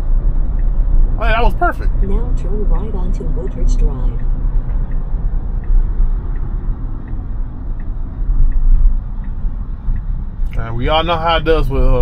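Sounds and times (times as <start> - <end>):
road and tyre rumble: 0.0 - 12.0
turn signal ticking: 0.0 - 12.0.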